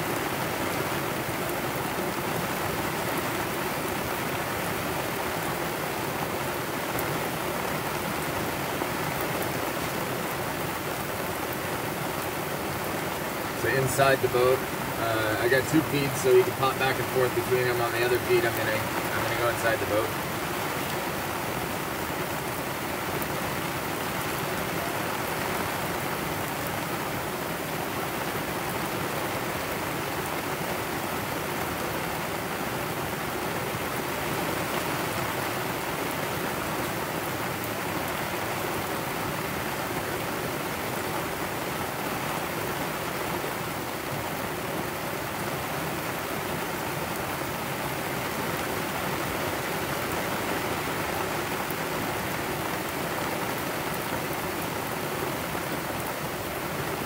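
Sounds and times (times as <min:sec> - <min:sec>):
heavy rain on deck and canvas: 0:00.0 - 0:57.0.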